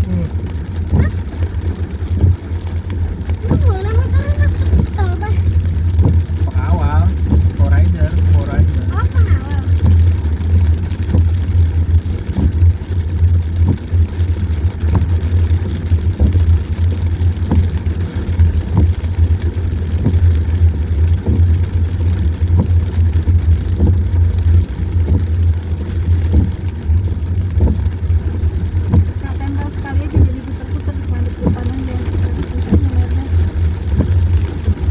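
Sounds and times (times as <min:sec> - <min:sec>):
car engine rumble: 0:00.0 - 0:34.9
rain and road noise hiss: 0:00.0 - 0:34.9
faint regular tick: 0:00.4 - 0:34.8.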